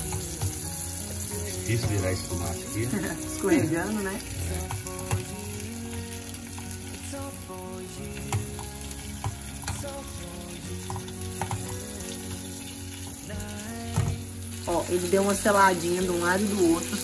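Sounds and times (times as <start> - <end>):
tomato slices sizzling in butter: 0.0 - 17.0.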